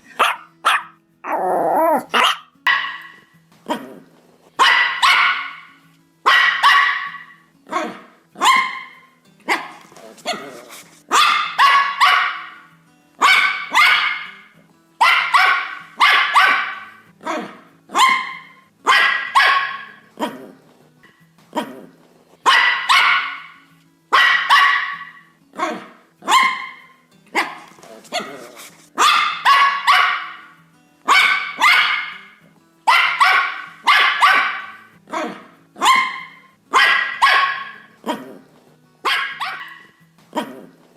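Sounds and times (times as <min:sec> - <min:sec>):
dog barking: 0:00.1 - 0:04.0, 0:04.6 - 0:20.4, 0:22.4 - 0:38.4, 0:39.0 - 0:40.7.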